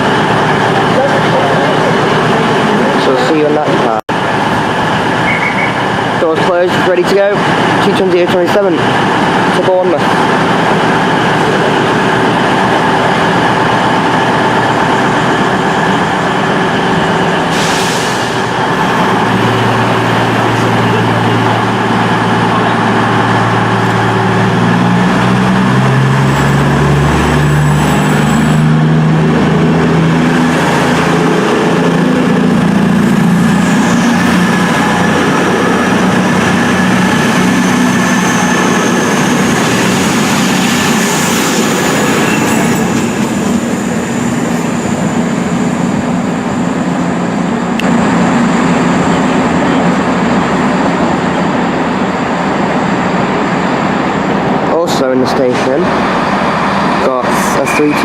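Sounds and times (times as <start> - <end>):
high electrical whine: 0.0 - 52.4
train diesel engines powering up: 0.0 - 58.0.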